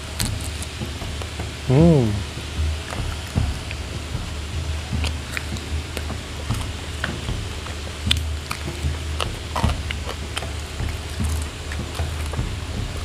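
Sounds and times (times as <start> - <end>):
crunchy chewing: 0.0 - 1.6, 2.3 - 13.0
low steady rumble: 0.0 - 13.0.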